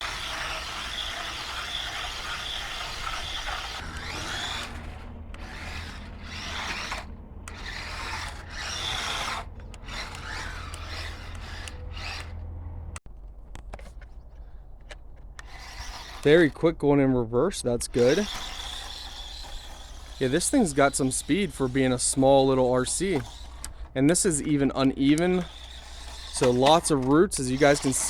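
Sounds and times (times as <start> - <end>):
rc truck electric motor whining: 0.0 - 12.5, 15.4 - 16.7, 17.8 - 28.0.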